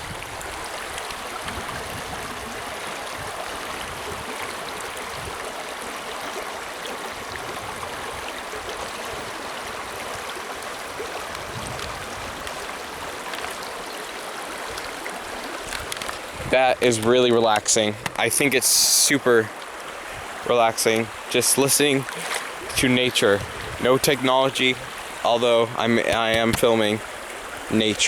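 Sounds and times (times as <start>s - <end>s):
creek water flowing over rocks: 0.0s - 28.0s.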